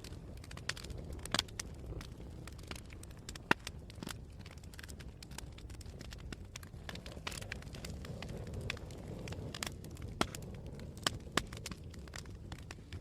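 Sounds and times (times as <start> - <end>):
fire pops: 0.0 - 13.0
wood fire crackling: 0.0 - 13.0.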